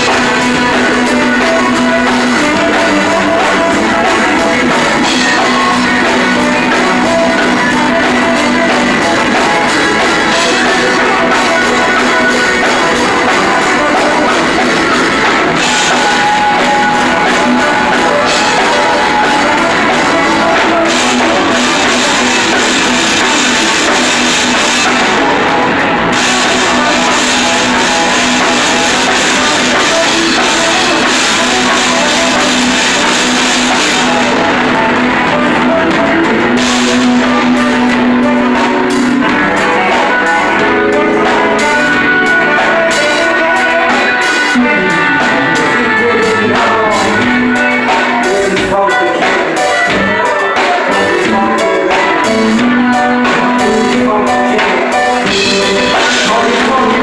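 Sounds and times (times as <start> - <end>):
drum kit: 0.0 - 57.0
guitar: 0.0 - 57.0
live rock band playing: 0.0 - 57.0.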